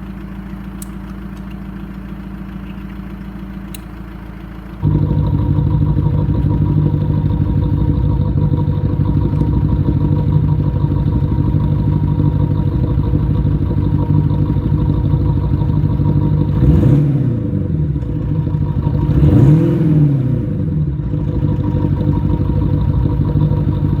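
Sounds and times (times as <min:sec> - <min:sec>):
synthetic engine idling and revving: 0:00.0 - 0:24.0.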